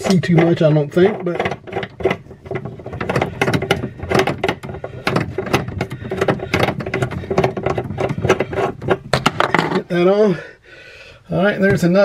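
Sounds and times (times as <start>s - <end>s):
plastic nut clicking and scraping: 0.0s - 9.9s.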